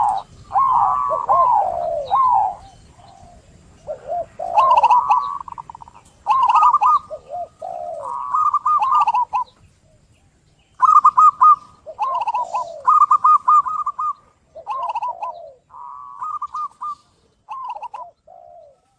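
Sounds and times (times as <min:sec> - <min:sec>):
dove cooing: 0:00.0 - 0:18.9.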